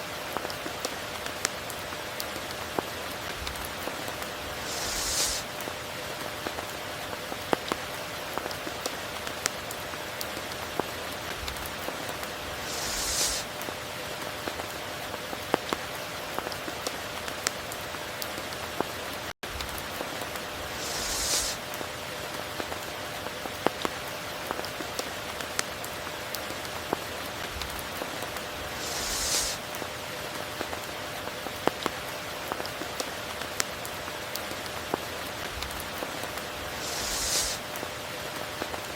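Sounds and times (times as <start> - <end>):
hissing swell of rain: 0.0 - 18.5, 19.6 - 23.2, 25.8 - 31.3, 34.3 - 38.8
steady rain falling: 0.0 - 38.9.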